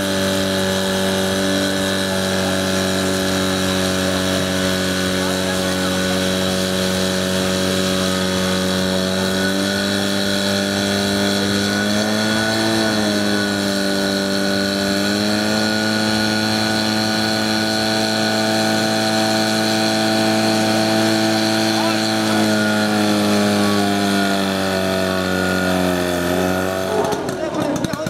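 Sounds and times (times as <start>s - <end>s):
pump engine running at high revs: 0.0s - 28.0s.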